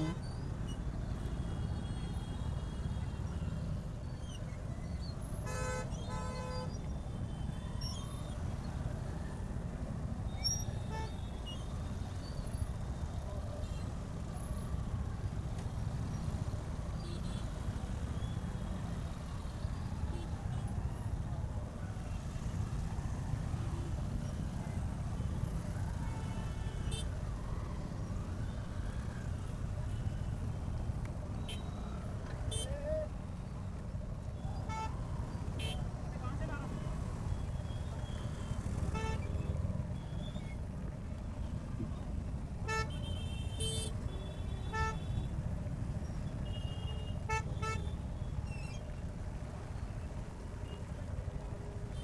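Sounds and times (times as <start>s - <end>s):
motorcycle engine and road rumble: 4.7s - 52.0s.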